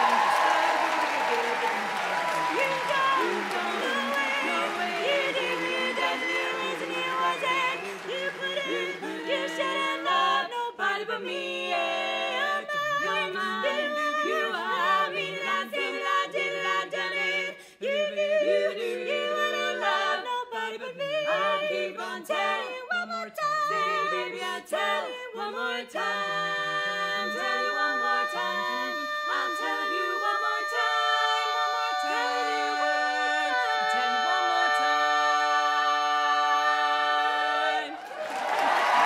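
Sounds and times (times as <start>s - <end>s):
women singing a cappella harmony: 1.3s - 38.0s.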